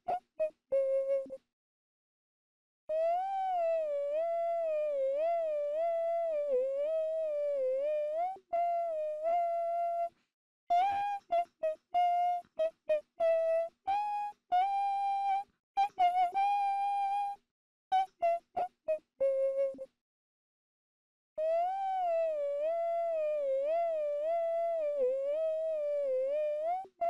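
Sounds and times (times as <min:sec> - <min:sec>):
person humming melody: 0:00.0 - 0:01.4, 0:02.9 - 0:17.4, 0:18.0 - 0:19.9, 0:21.4 - 0:27.0.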